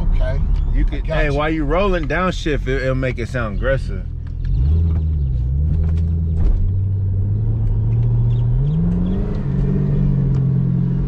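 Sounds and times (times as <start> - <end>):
car engine revving on the move: 0.0 - 11.0.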